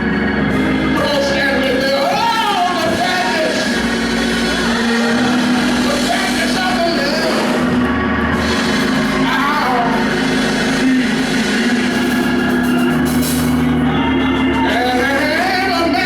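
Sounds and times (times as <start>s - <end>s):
band playing held chords: 0.0s - 16.0s
person singing: 0.0s - 16.0s.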